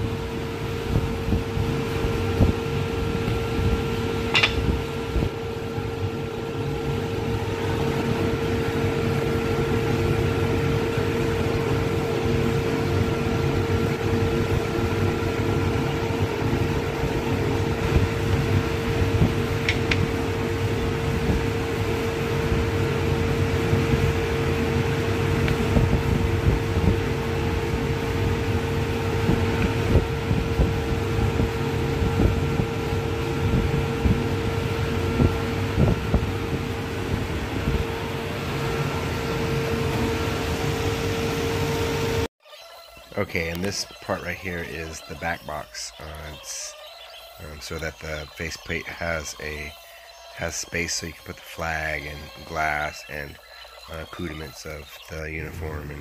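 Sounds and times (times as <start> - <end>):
fan humming: 0.0 - 56.0.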